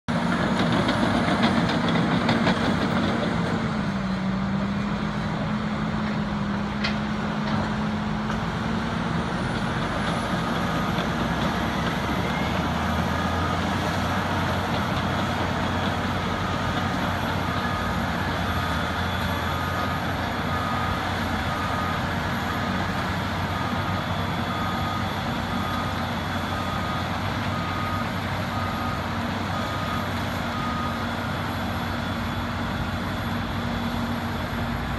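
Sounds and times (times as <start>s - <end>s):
diesel engines running under load: 0.1s - 34.9s.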